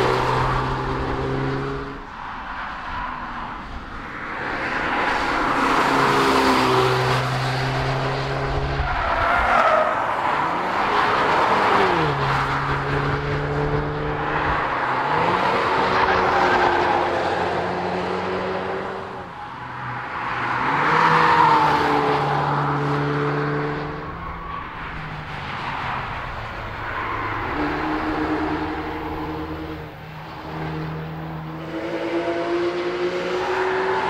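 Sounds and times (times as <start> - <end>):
cars passing at speed: 0.0 - 34.0.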